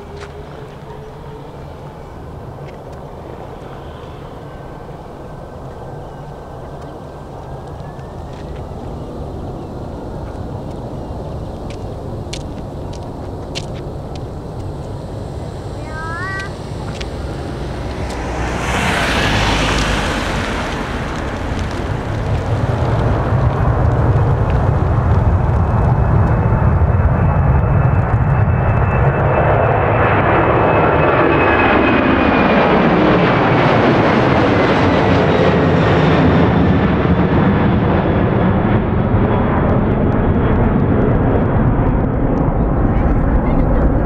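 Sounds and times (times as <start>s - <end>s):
jet engines roaring at takeoff: 0.0s - 44.0s.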